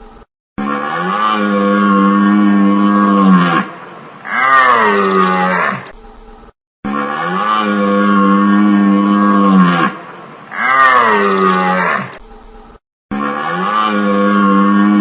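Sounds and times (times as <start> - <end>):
water buffalo bellowing: 0.6 - 5.9, 6.8 - 12.2, 13.1 - 15.0.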